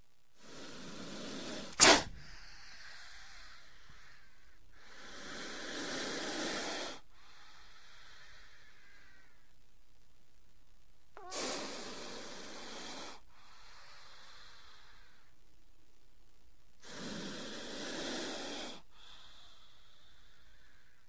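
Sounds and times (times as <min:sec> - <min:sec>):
cobra hissing: 0:00.4 - 0:09.5, 0:11.2 - 0:15.4, 0:16.8 - 0:21.0.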